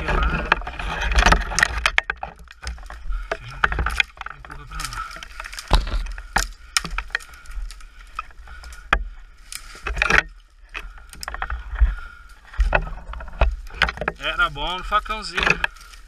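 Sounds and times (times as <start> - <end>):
dry bamboo cracking and rustling: 0.0 - 16.0.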